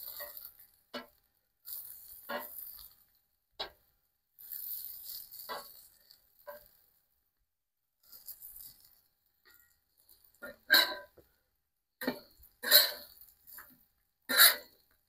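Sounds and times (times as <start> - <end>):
sausages sizzling: 0.0 - 7.2, 8.0 - 11.4, 12.0 - 15.0.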